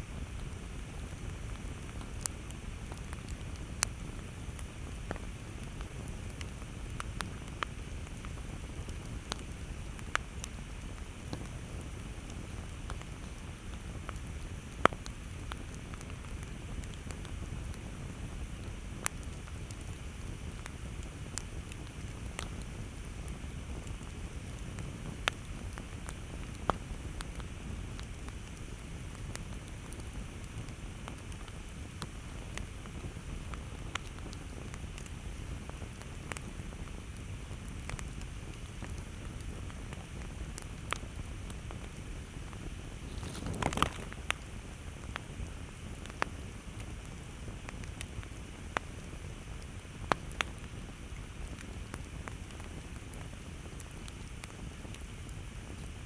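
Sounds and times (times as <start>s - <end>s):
low rumble of flames: 0.0s - 56.0s
wood crackles and pops: 0.1s - 56.0s.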